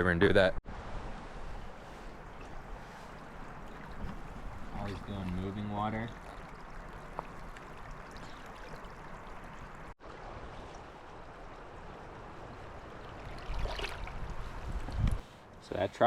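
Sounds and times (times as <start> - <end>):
mountain river flowing: 1.2 - 14.9.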